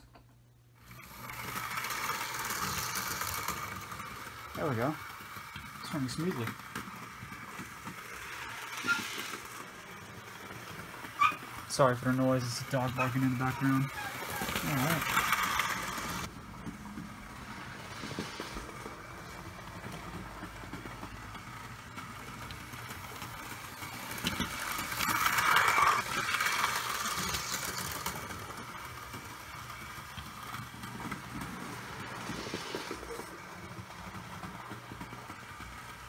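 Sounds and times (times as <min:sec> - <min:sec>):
model train motor whirring: 0:00.8 - 0:36.0.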